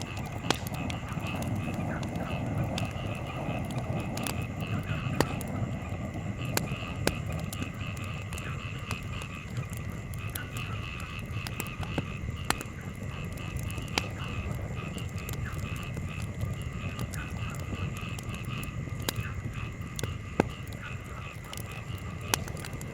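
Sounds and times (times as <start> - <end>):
campfire crackling and popping: 0.0 - 22.9
pulsing animal chorus: 0.0 - 22.9.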